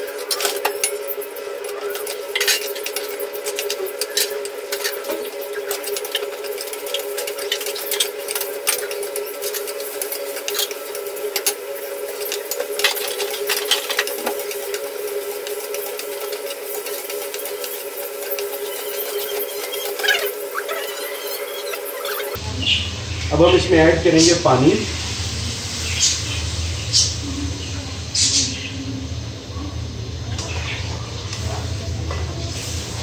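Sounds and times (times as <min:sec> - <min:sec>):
frying hiss: 0:00.0 - 0:33.0
steady hum: 0:00.0 - 0:33.0.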